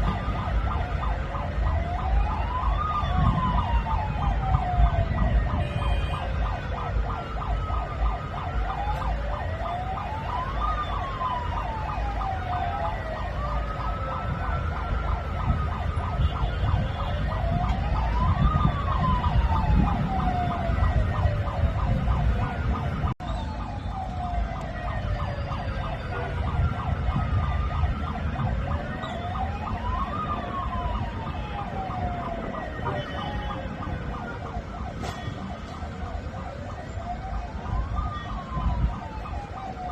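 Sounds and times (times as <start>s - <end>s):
car siren wailing: 0.0s - 39.9s
low rumble of traffic: 0.0s - 39.9s.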